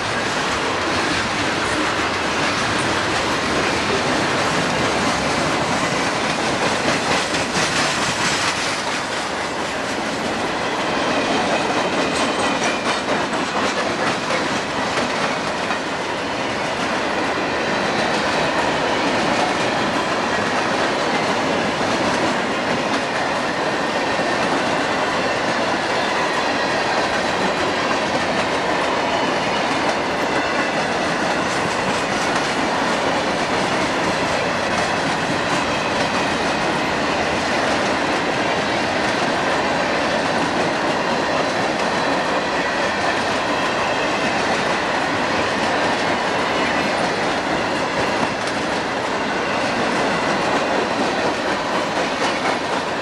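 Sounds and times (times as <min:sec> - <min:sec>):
freight train wheels clickety-clack: 0:00.0 - 0:53.0.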